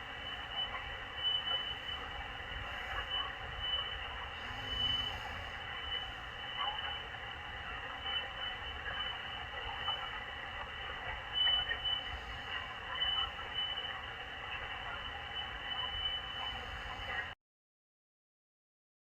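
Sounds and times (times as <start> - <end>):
radio static and hiss: 0.0 - 17.4.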